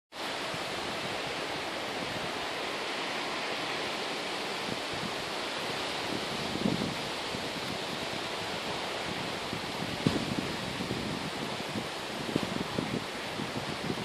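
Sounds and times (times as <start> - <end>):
choppy water: 0.1 - 14.0
wind: 0.1 - 14.0.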